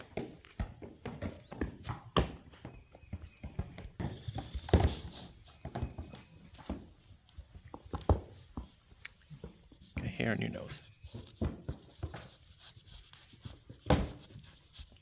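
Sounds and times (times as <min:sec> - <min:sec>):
hooves clopping and shuffling: 0:00.0 - 0:15.0.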